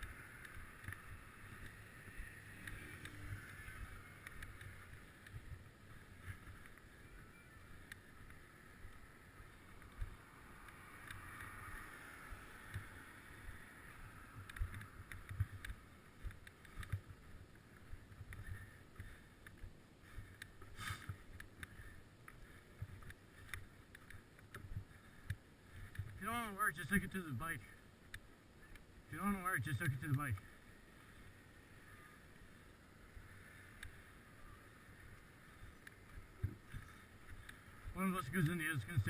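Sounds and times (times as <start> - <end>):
bicycle riding rumble: 0.0 - 39.0.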